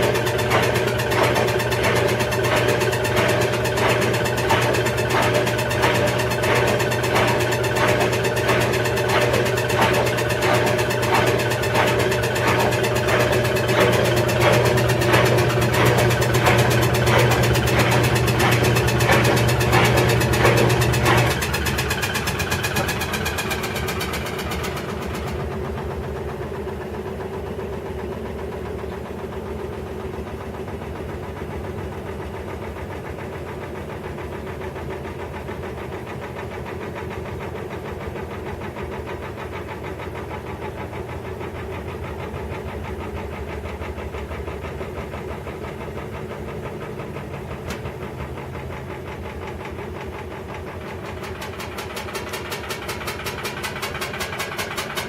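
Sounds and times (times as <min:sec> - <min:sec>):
washing machine humming and rattling: 0:00.0 - 0:55.0.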